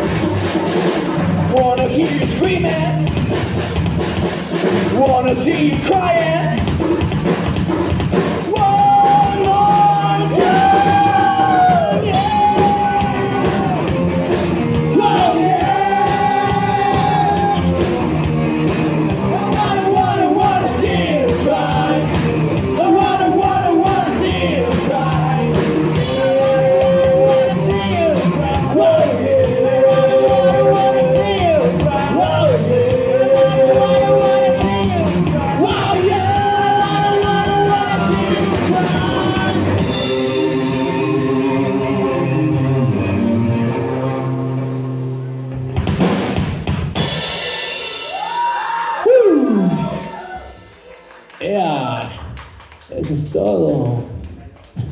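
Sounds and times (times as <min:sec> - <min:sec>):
bass guitar: 0:00.0 - 0:50.5
drum kit: 0:00.0 - 0:54.9.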